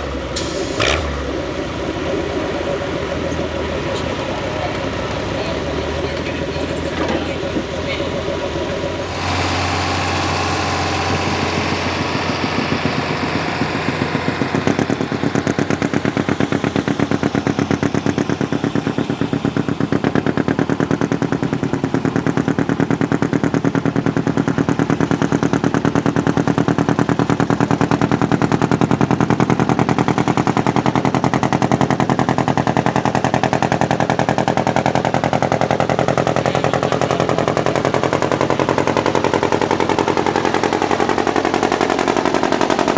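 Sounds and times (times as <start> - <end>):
tractor engine rattling under load: 0.0 - 42.9.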